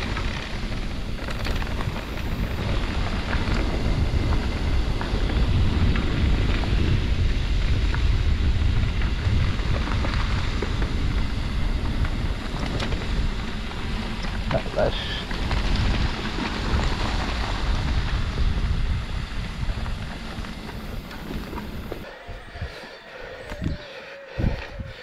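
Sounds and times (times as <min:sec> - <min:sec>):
mountain bike rumble on rough ground: 0:00.0 - 0:25.0
wind buffeting microphone: 0:00.0 - 0:25.0.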